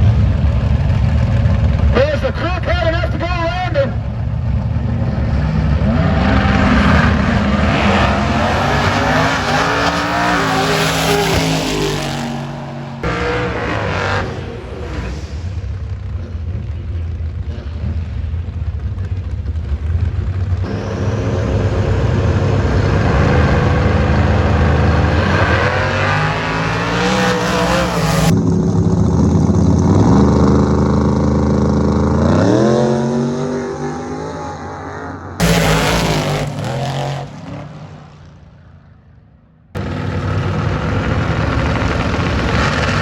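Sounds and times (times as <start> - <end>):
race car engines accelerating: 0.0 - 43.0.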